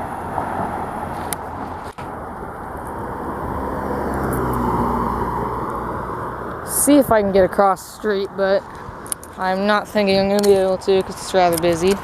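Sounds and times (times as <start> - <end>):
highway traffic noise: 0.0 - 12.0
vehicle engine hum: 0.0 - 12.0.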